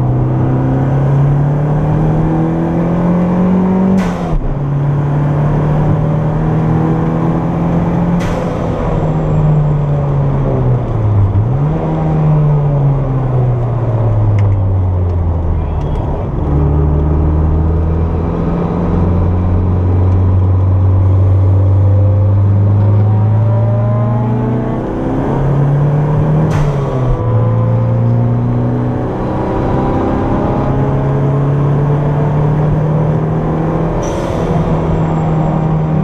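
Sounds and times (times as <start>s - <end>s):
car engine pulling hard: 0.0s - 36.0s.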